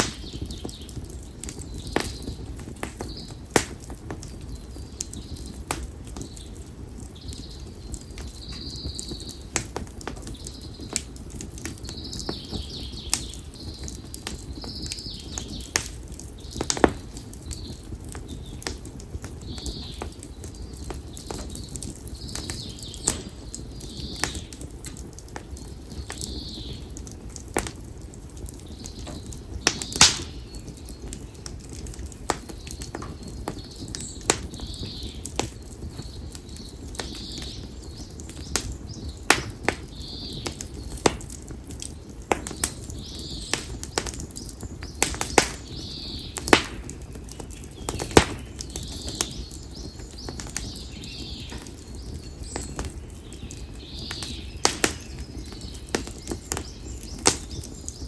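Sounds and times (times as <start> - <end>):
firewood crackling and popping: 0.0 - 58.0
low rush of flames: 0.0 - 58.0.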